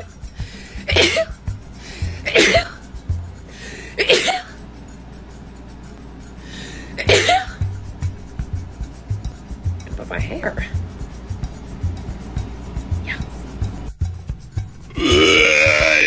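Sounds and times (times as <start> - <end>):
background music with beat: 0.0 - 16.0.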